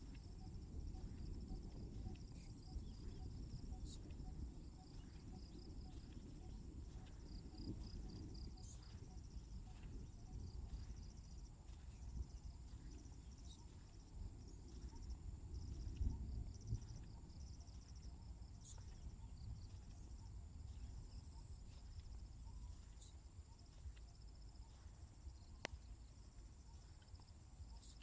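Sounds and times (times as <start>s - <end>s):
high-pitched insect drone: 0.0s - 28.0s
insects trilling: 0.0s - 28.0s
low background rumble: 0.0s - 28.0s.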